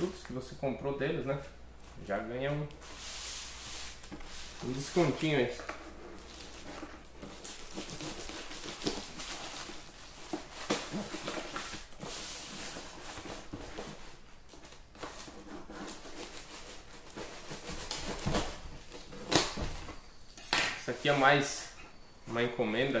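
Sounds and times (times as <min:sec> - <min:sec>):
plastic packaging rustling: 0:02.8 - 0:23.0.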